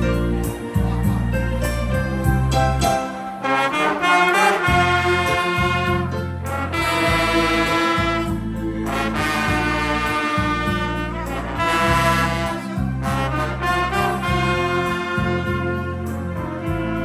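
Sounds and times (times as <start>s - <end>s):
steady bass line: 0.0s - 3.0s, 4.5s - 17.0s
brass band music: 0.0s - 17.0s.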